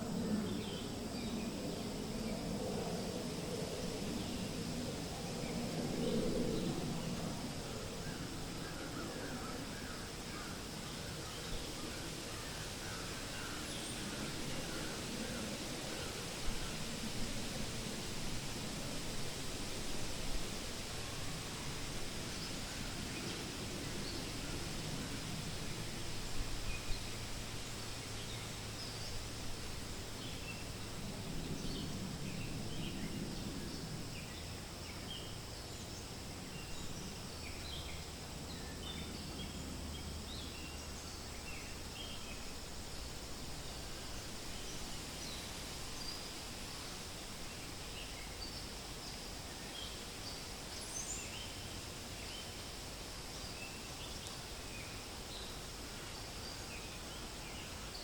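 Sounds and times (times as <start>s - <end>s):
wind rustling through leaves: 0.0s - 58.0s.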